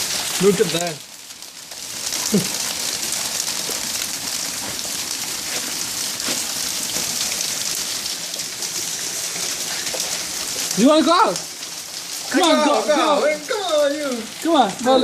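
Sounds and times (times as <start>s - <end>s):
hail hitting hard surfaces: 0.0s - 15.0s.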